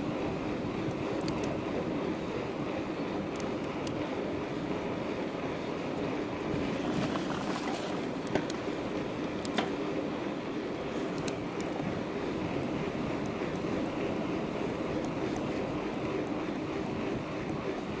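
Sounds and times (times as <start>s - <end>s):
bike tyres rolling on asphalt: 0.0s - 18.0s
bike clicks: 0.7s - 18.0s.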